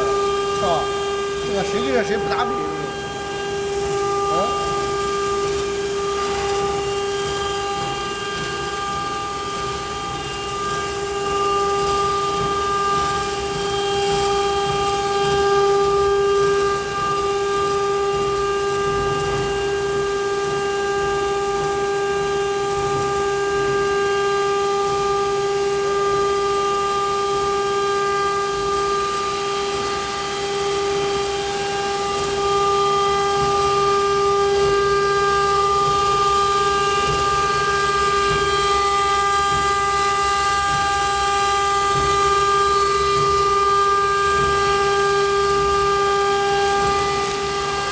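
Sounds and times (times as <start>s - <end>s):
router spindle whining: 0.0s - 47.9s.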